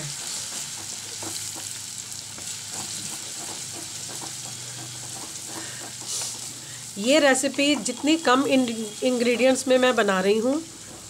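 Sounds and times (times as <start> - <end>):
wooden spatula stirring and tapping: 0.0 - 6.6, 7.2 - 9.9
paste sizzling in hot oil: 0.0 - 11.0.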